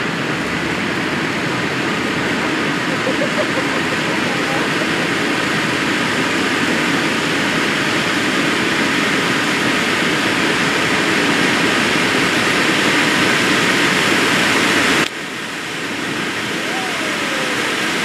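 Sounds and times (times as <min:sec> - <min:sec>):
firework fountains hissing: 0:00.0 - 0:18.0.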